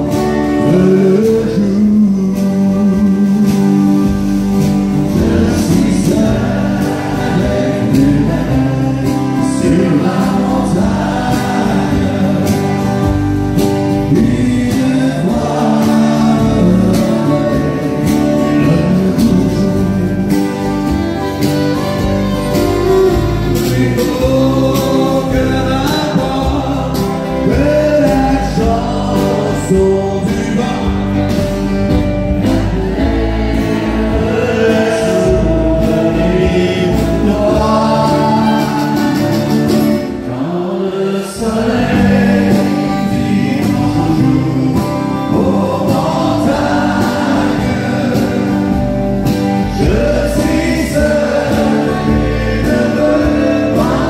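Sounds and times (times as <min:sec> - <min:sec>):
men singing in harmony: 0:00.0 - 0:21.3, 0:22.0 - 0:54.0
acoustic guitars strummed: 0:00.0 - 0:54.0.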